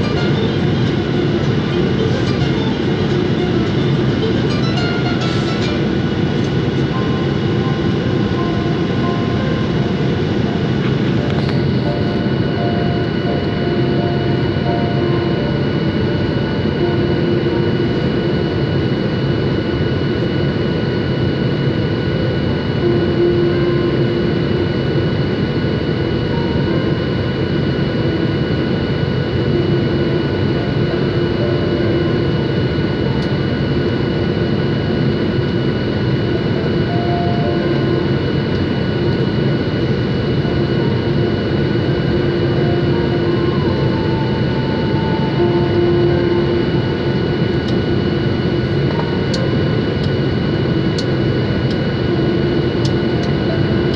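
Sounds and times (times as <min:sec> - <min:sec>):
jet engine roar in cabin: 0:00.0 - 0:53.9
thin steady whine: 0:00.0 - 0:53.9.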